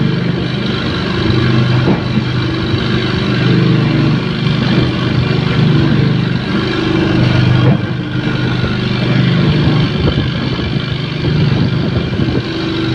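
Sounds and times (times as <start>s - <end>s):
grinding machine running: 0.0s - 12.9s
low motor hum: 0.0s - 12.9s.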